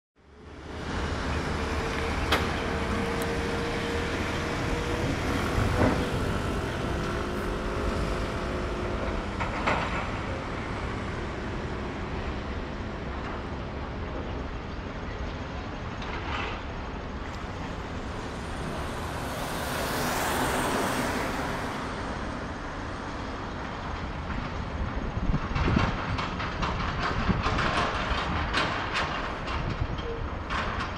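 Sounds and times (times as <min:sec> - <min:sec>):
vehicle engine and road rumble: 0:00.2 - 0:30.9.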